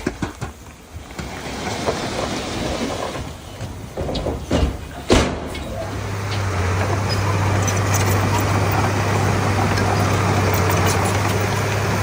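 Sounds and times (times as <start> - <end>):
bulldozer machinery rattling: 0.0 - 12.0.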